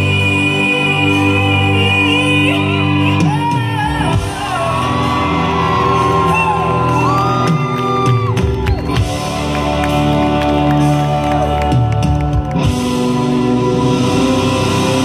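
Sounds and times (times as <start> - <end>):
live pop band: 0.0 - 15.0.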